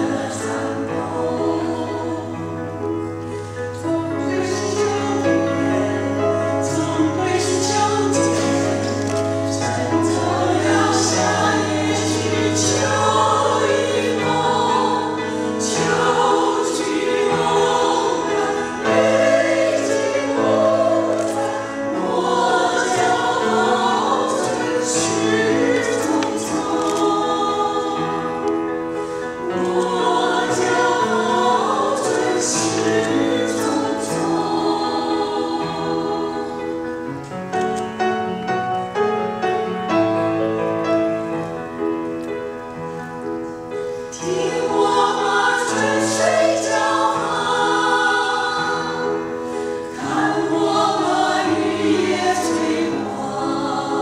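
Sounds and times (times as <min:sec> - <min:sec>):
women's chorus singing in harmony: 0:00.0 - 0:54.0.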